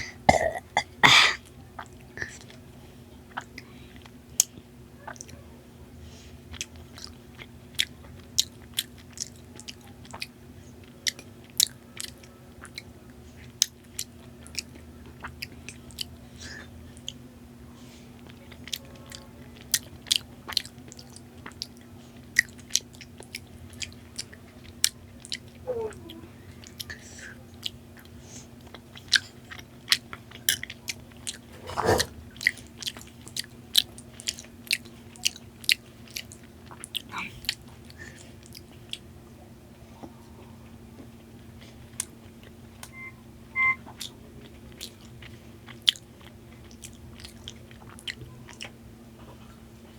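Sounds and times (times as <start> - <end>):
steady low hum: 0.0 - 49.9
chewing with wet mouth clicks: 3.3 - 5.4, 6.5 - 17.2, 18.2 - 39.1, 41.0 - 48.8.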